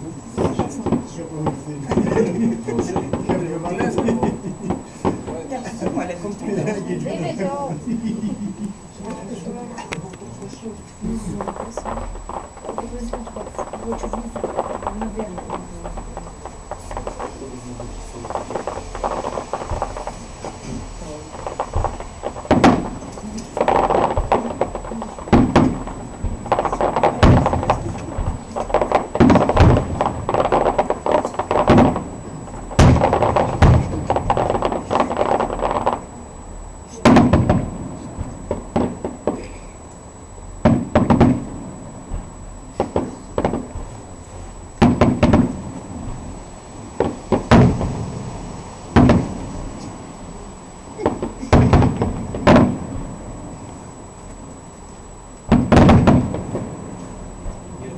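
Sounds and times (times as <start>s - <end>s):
firework shells bursting: 0.3s - 57.9s.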